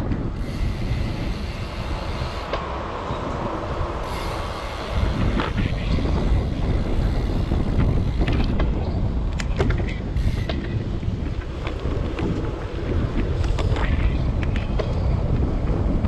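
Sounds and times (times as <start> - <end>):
city street traffic: 0.0 - 16.0
wind rumbling on microphone: 0.0 - 16.0.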